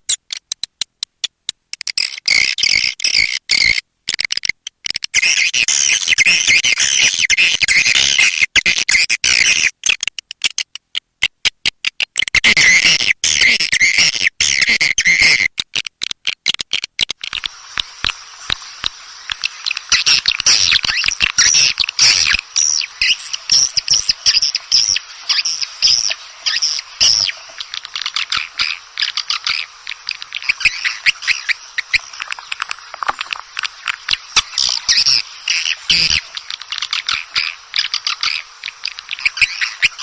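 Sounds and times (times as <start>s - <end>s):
recorded bird chirping: 0.0s - 40.0s.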